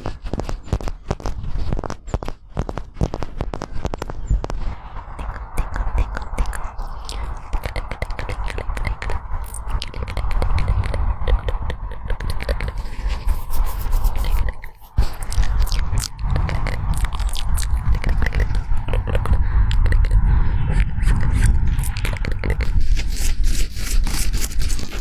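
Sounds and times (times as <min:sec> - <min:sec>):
crackling and scraping: 0:00.0 - 0:25.0
low rumble: 0:00.0 - 0:25.0.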